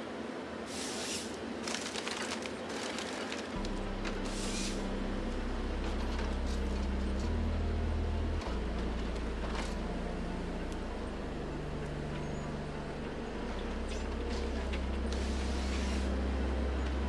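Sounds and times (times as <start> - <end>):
heavy machinery engine drone: 0.0 - 17.0.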